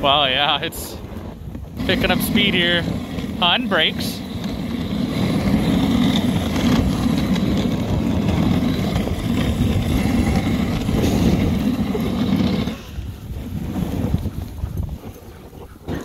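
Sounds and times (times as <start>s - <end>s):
sled runners scraping snow: 0.0s - 16.0s
wind on microphone: 0.0s - 16.0s.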